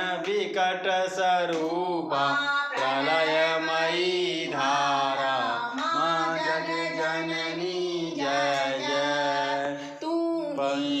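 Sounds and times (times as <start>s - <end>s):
person singing devotional song: 0.0s - 11.0s.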